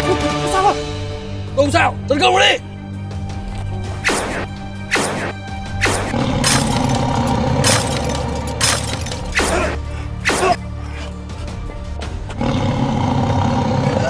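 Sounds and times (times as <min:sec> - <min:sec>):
action music with held tones: 0:00.0 - 0:14.0.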